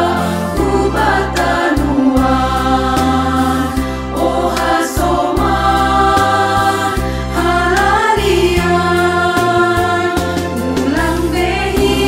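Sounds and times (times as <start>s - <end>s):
instrumental backing track with beat: 0.0s - 12.0s
women's choir singing in harmony: 0.0s - 12.0s.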